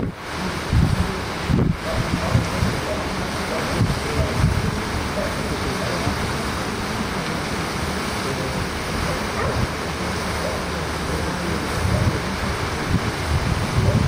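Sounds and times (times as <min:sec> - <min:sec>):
wash like moving water: 0:00.0 - 0:14.0
wind buffeting microphone: 0:00.0 - 0:14.0.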